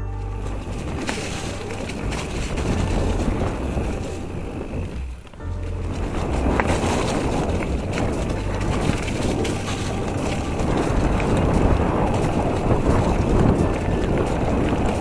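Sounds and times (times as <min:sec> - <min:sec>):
tyres on dirt and leaves: 0:00.0 - 0:15.0
wind rumbling on microphone: 0:00.0 - 0:15.0
bike rattling clicks: 0:00.1 - 0:15.0.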